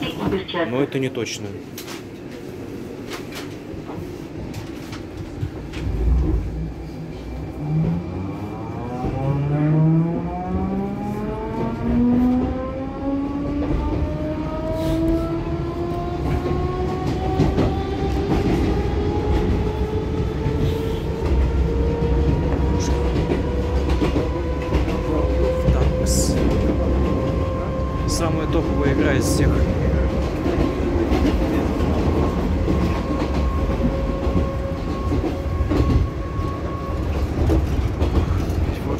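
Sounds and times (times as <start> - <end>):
wheel and rail rumble: 1.7 - 38.9.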